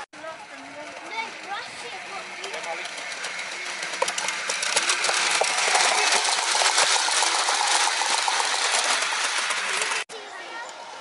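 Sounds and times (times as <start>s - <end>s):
model train wheels clattering: 0.2s - 10.1s.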